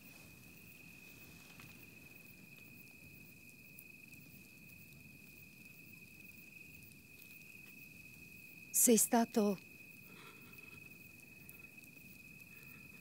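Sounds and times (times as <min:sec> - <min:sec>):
high-pitched cricket trill: 0:00.0 - 0:13.0.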